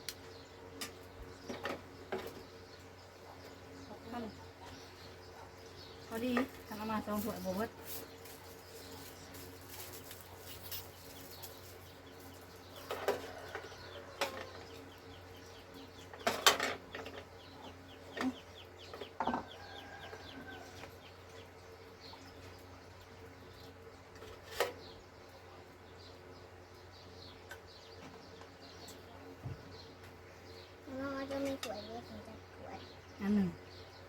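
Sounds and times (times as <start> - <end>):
birds chirping faintly: 0.0 - 34.0.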